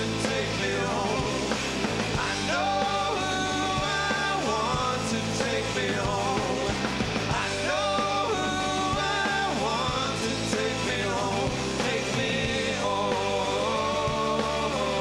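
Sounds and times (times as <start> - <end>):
man singing: 0.0 - 1.6, 2.2 - 15.0
bass guitar: 0.0 - 15.0
drums: 0.0 - 15.0
electric guitar: 0.0 - 15.0.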